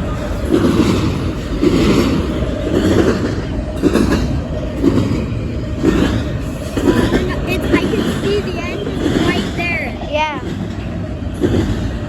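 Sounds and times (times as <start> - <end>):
rhythmic wheel clatter: 0.0 - 12.0
train wheels rumbling on rail: 0.0 - 12.0.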